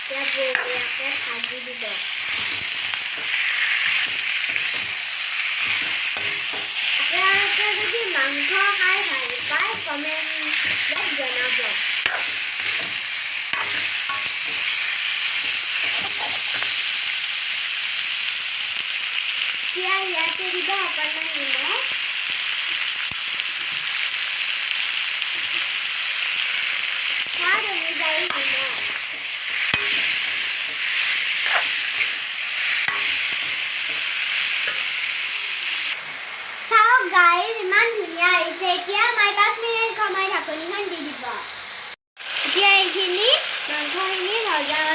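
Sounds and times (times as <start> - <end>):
chicken sizzling in oil: 0.0 - 44.9.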